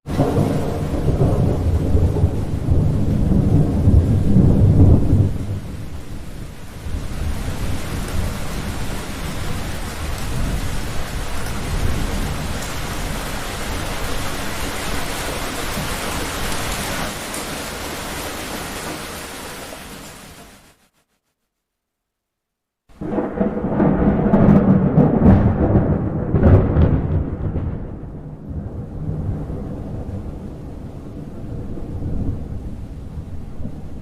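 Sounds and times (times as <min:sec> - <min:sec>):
heavy rain: 0:00.0 - 0:20.9, 0:22.9 - 0:34.0
rolling thunderclap: 0:00.1 - 0:19.1, 0:22.9 - 0:34.0.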